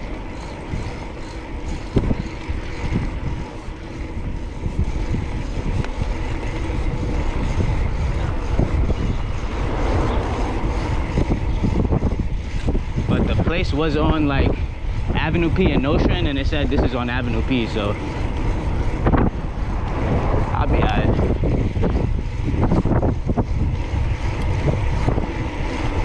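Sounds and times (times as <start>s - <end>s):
bicycle road noise: 0.0s - 26.0s
wind buffeting microphone: 0.0s - 26.0s.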